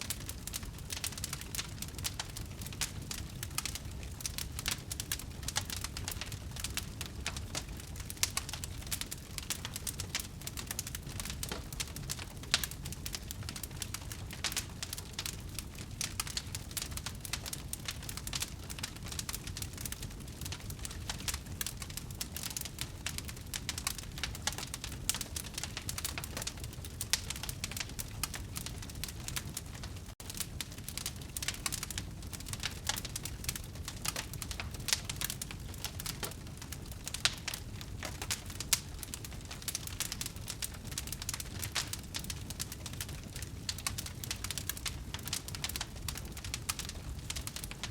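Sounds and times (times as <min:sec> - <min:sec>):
burning wood crackling: 0:00.0 - 0:47.9
low rumble of flames: 0:00.0 - 0:47.9.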